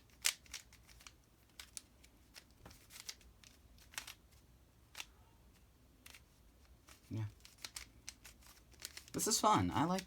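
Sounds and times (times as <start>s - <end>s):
puzzle cube clicking: 0.0s - 4.3s, 6.0s - 10.0s.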